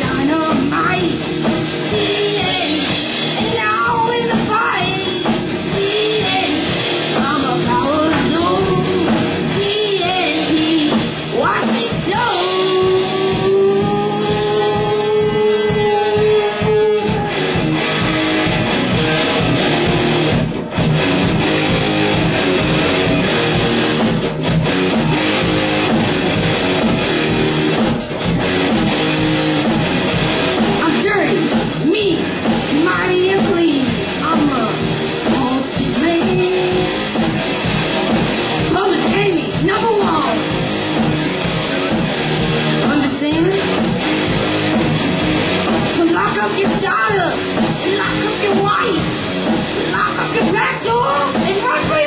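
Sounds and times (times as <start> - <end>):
drums: 0.0 - 52.0
electric guitar: 0.0 - 52.0
live rock band playing: 0.0 - 52.0.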